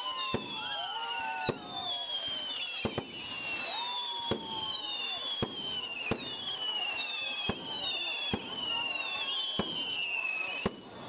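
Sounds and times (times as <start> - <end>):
firework bangs: 0.0 - 11.0
high falling firework whistles: 0.0 - 11.0.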